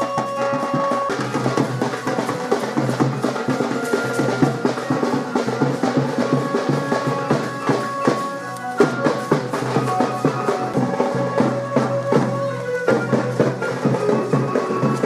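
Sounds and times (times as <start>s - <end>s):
drums and percussion music: 0.0s - 15.0s.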